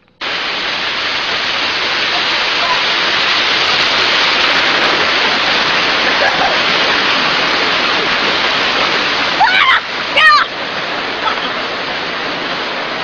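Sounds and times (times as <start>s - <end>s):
waterfall rushing into pool: 0.2s - 13.0s.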